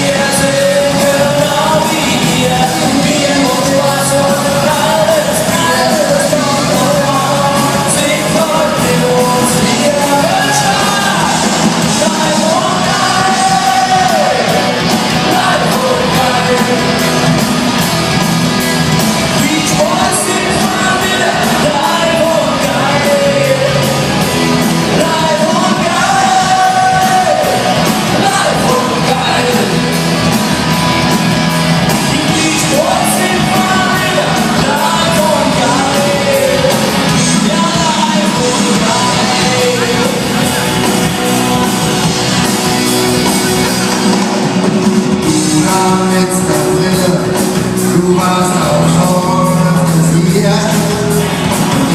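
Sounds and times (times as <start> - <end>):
person singing: 0.0 - 17.9, 18.6 - 31.1, 31.8 - 51.9
live band playing: 0.0 - 51.9.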